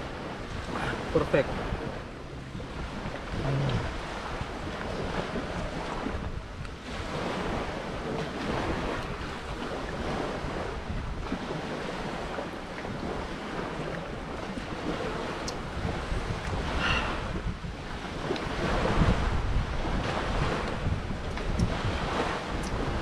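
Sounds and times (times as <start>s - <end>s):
sea waves washing on a beach: 0.0s - 23.0s
wind on the microphone: 0.0s - 23.0s.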